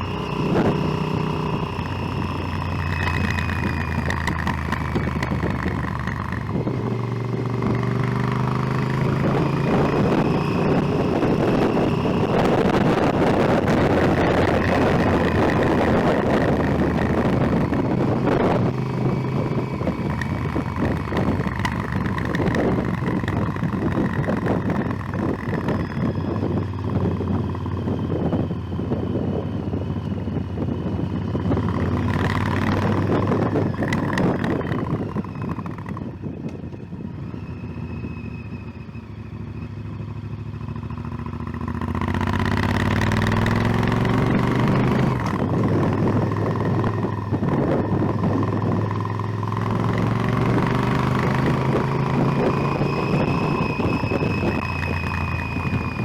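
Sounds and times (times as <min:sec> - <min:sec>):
wind rushing over microphone: 0:00.0 - 0:38.9, 0:40.0 - 0:56.0
motorcycle engine running: 0:00.0 - 0:56.0.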